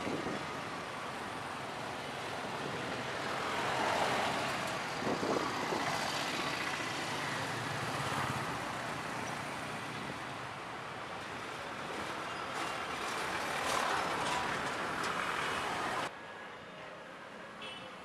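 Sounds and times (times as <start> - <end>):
passing engines and tyres: 0.0 - 16.1.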